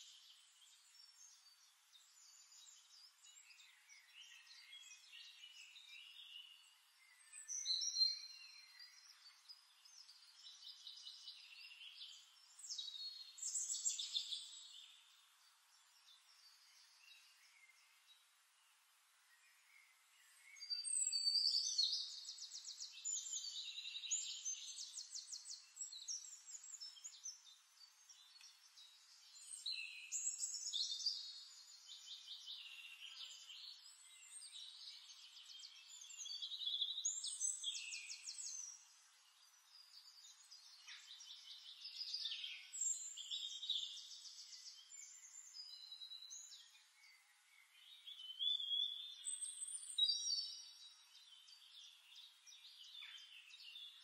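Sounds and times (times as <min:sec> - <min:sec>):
faint hiss: 0:00.0 - 0:54.0
songbirds singing: 0:00.0 - 0:54.0.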